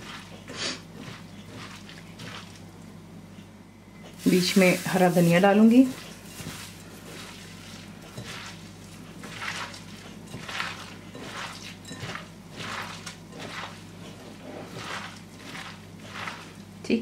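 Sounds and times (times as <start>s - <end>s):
wet squishing of onions: 0.0s - 3.0s, 4.1s - 16.8s
low steady hum: 0.0s - 17.0s.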